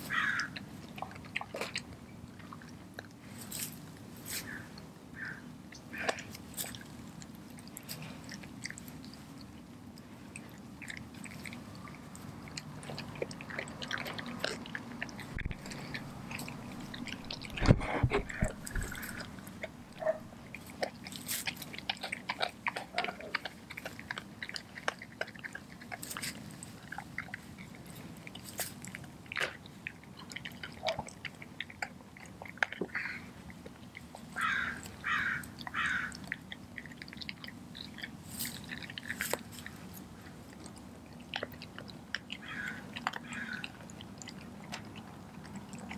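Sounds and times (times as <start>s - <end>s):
dog chewing raw chicken: 0.0s - 45.9s.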